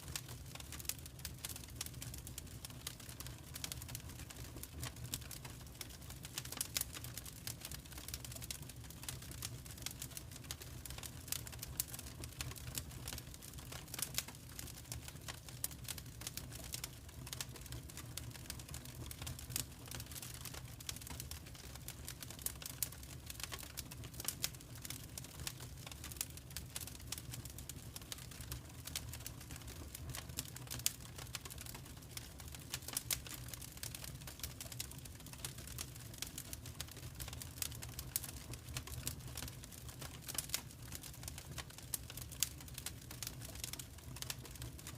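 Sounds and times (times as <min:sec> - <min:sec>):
low rumble of burning logs: 0:00.0 - 0:44.9
wood fire crackling: 0:00.0 - 0:44.9.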